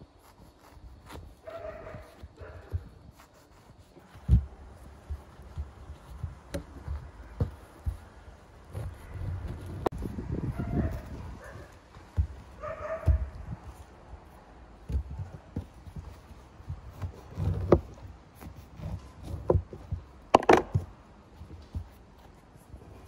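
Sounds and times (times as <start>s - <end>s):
knife cutting crusty bread: 0.0s - 20.5s.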